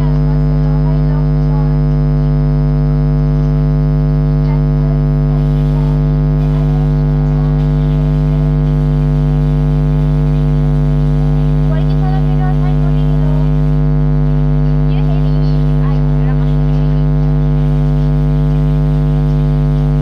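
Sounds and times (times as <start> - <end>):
faint voice: 0.0 - 20.0
loud electrical buzz: 0.0 - 20.0.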